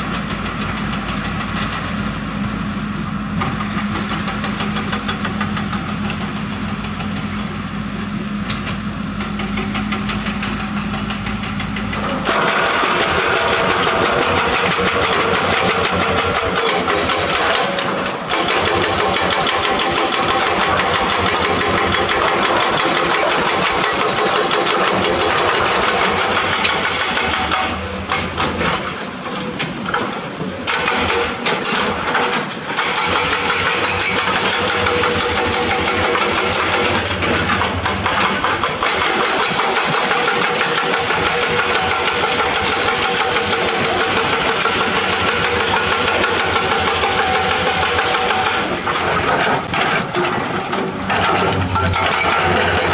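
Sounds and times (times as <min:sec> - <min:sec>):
hydraulic rock breaker hammering: 0:00.0 - 0:02.2, 0:02.9 - 0:07.7, 0:08.4 - 0:52.9
diesel engine humming: 0:00.0 - 0:52.9.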